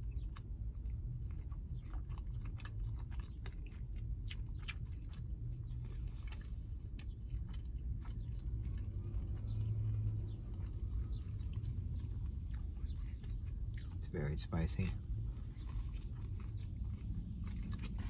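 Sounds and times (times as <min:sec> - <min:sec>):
person chewing with mouth clicks: 0:00.0 - 0:14.1, 0:15.0 - 0:18.0
steady low hum: 0:00.0 - 0:18.0.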